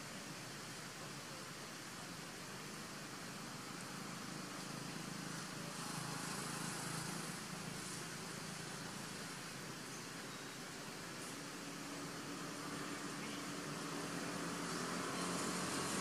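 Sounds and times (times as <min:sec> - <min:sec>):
outdoor hiss and low hum: 0:00.0 - 0:16.0.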